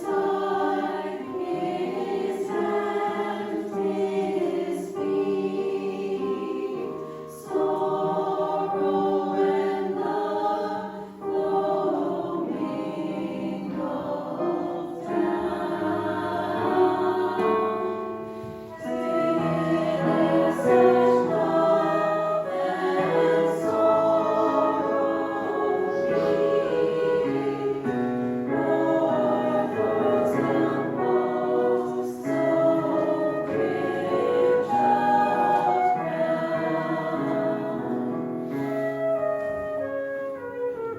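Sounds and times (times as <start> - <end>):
choir singing: 0.0 - 39.6.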